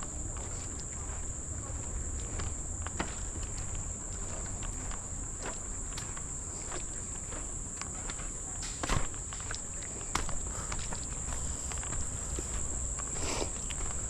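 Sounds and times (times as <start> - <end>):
footsteps on forest trail: 0.0 - 14.0
insects droning: 0.0 - 14.0.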